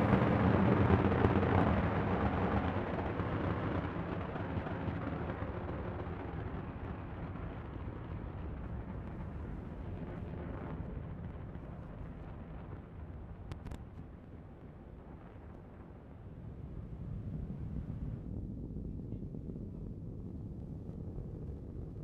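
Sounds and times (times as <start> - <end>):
rocket engines rumbling: 0.0 - 22.0.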